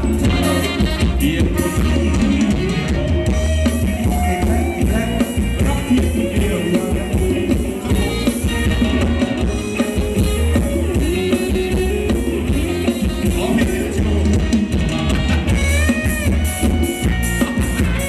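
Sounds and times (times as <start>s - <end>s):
heavy bass beat: 0.0s - 18.0s
live band playing dance music: 0.0s - 18.0s.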